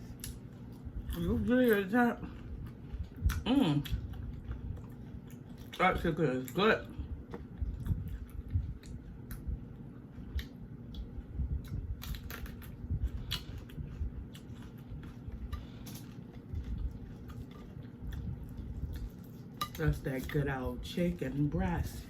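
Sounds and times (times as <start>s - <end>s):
person chewing crispy food: 0.0s - 20.4s.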